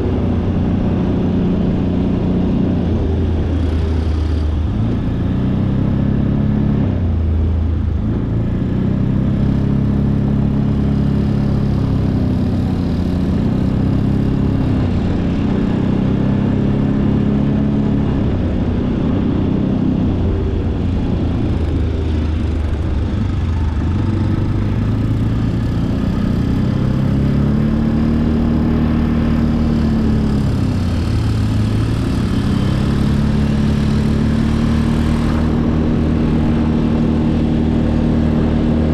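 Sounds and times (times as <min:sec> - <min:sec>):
atv engine revving: 0:00.0 - 0:07.0, 0:08.0 - 0:38.9.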